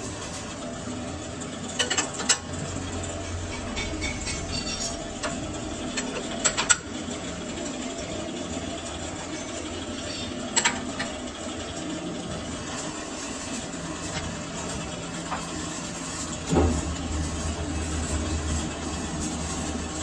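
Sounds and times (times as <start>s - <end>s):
lathe running: 0.0s - 20.0s.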